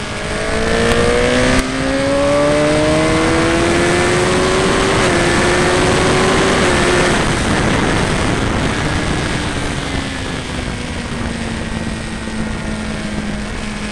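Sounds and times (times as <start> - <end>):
motorcycle engine at high revs: 0.0 - 13.9
wind rush: 0.0 - 13.9.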